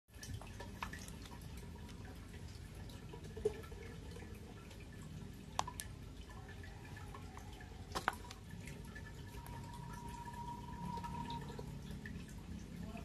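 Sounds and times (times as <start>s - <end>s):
aquarium bubbles popping: 0.1s - 13.0s
water dripping and trickling: 0.1s - 13.0s.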